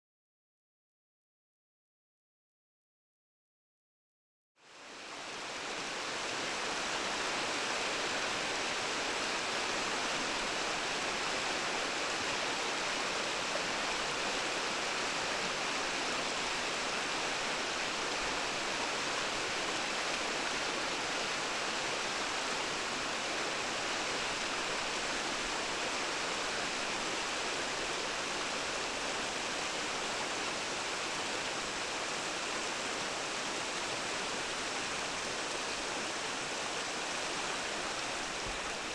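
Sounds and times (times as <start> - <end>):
mountain stream rushing: 4.8 - 38.9.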